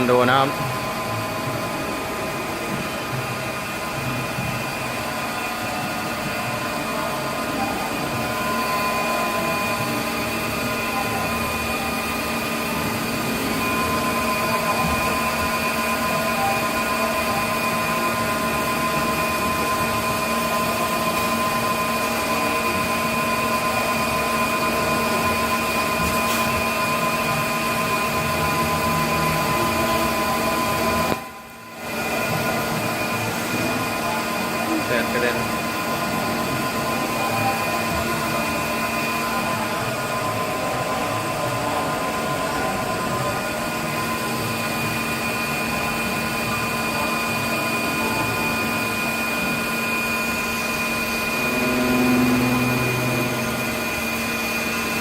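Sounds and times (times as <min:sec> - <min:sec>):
lathe machine hum: 0:00.0 - 0:55.0
whining spindle tones: 0:00.0 - 0:55.0.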